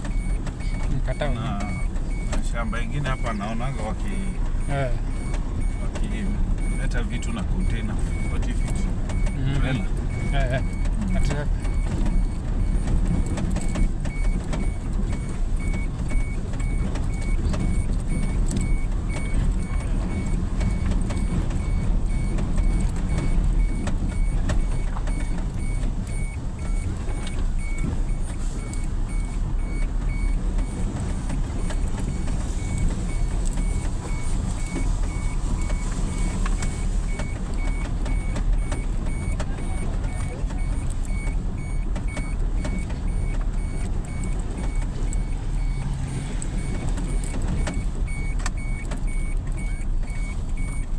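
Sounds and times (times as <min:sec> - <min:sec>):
vehicle engine and tyres rumbling: 0:00.0 - 0:50.9.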